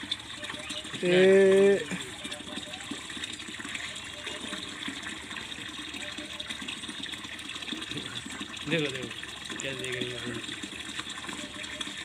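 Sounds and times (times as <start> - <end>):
water gushing into a plastic tank: 0.0 - 12.0.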